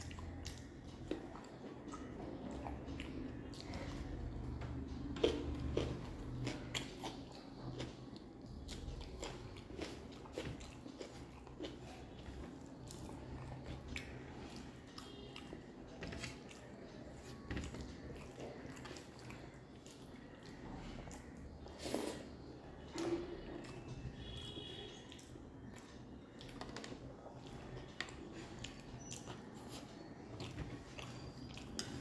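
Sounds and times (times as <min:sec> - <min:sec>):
mouth chewing and smacking: 0:00.0 - 0:32.0.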